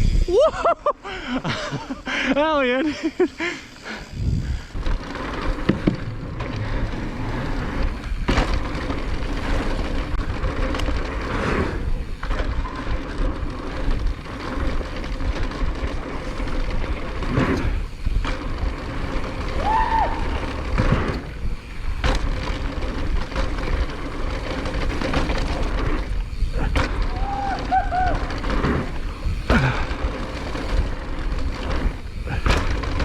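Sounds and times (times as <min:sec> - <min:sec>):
bike rattling over bumps: 0:00.0 - 0:33.0
tyres rumbling on dirt: 0:01.4 - 0:33.0
wind buffeting microphone: 0:04.0 - 0:33.0.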